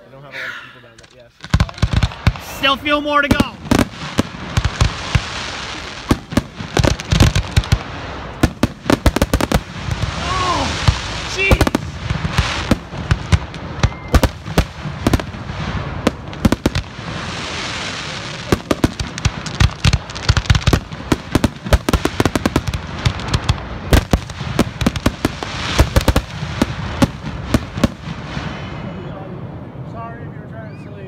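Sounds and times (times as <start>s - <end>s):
fireworks hiss: 0.8s - 29.0s
fireworks bangs and crackles: 0.8s - 30.0s.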